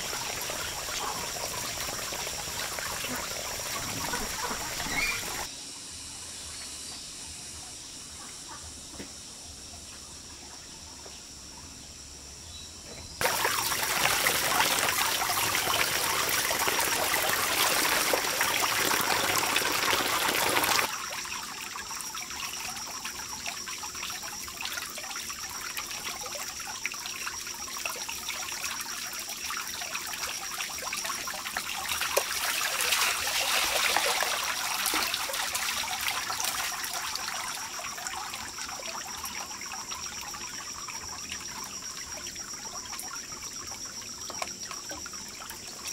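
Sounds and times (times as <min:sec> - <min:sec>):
water pouring and splashing: 0:00.0 - 0:05.5, 0:13.2 - 0:45.9
water trickling and dribbling: 0:00.0 - 0:05.5, 0:13.2 - 0:45.9.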